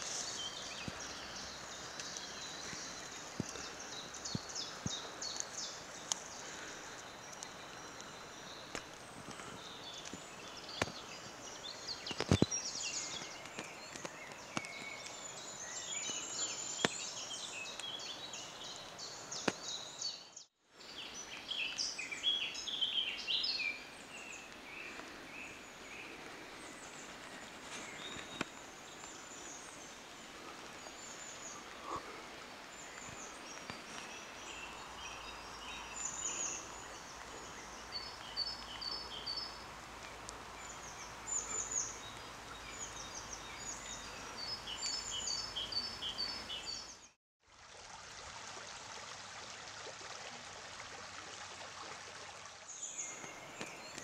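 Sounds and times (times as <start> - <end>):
birds singing and chirping: 0.0 - 30.0, 30.8 - 47.1
low outdoor hiss: 0.0 - 47.0.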